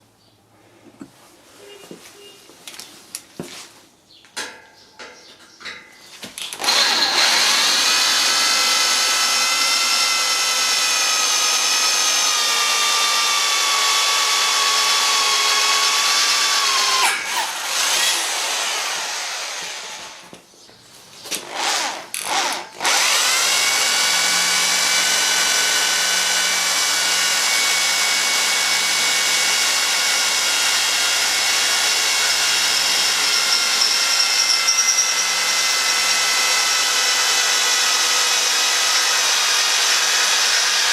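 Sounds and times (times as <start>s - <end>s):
electric drill whining into metal: 6.4s - 20.3s, 21.3s - 40.9s.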